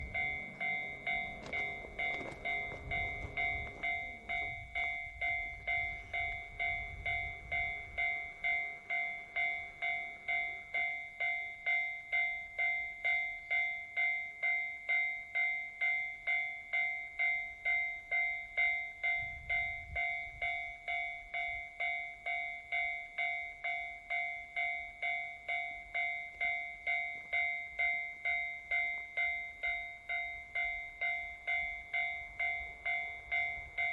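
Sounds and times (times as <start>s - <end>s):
level-crossing warning bell ringing: 0.0s - 33.9s.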